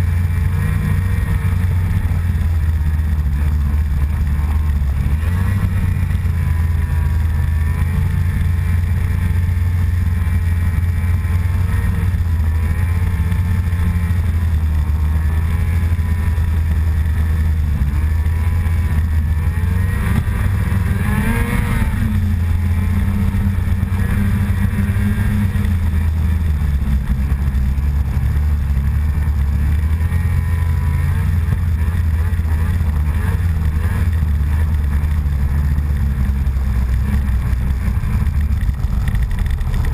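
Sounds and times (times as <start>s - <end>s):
heavy low rumble: 0.0s - 39.9s
small vehicle engine running: 0.0s - 39.9s.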